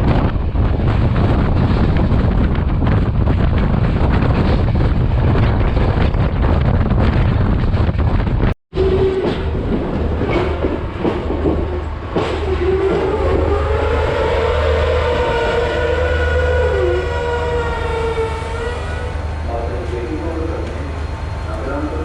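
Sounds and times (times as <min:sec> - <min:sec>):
wind on microphone: 0:00.0 - 0:19.3
train running on rails: 0:00.0 - 0:22.0.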